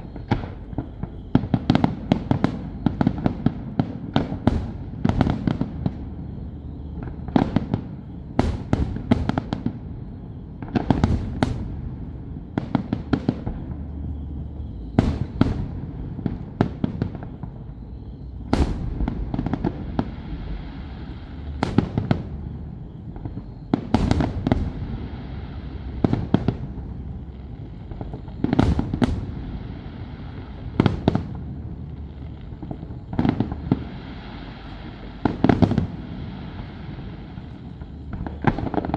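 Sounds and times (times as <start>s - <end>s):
constant low rumble: 0.0s - 38.9s
fireworks bangs: 0.0s - 38.9s.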